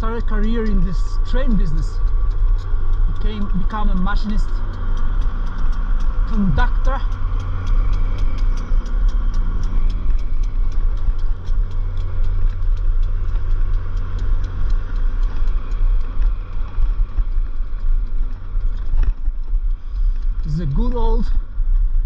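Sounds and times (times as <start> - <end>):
steady light ticking: 0.0 - 22.0
wind rumbling on microphone: 0.0 - 22.0.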